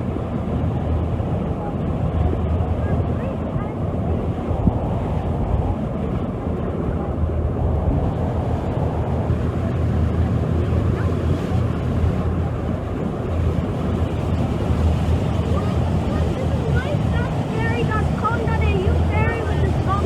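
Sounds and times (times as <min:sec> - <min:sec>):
low engine rumble: 0:00.0 - 0:20.0
water rushing past hull: 0:00.0 - 0:20.0
wind buffeting the microphone: 0:00.0 - 0:20.0.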